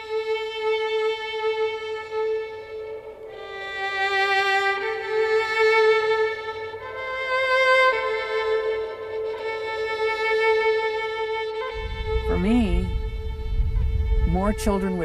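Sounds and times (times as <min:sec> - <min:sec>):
slow instrumental melody: 0:00.0 - 0:15.0.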